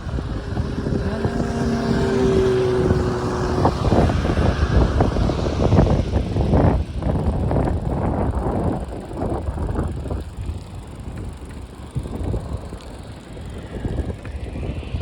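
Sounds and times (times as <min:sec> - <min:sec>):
low rolling rumble: 0:00.0 - 0:15.0
steady humming tone: 0:00.0 - 0:15.0
wind buffeting microphone: 0:00.0 - 0:15.0.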